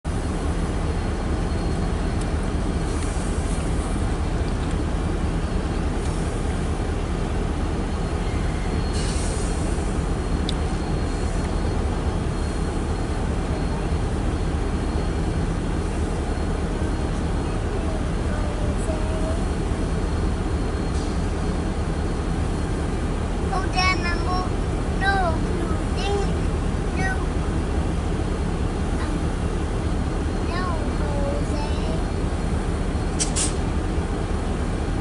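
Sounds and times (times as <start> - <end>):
train wheels rumbling on rails: 0.1 - 35.0.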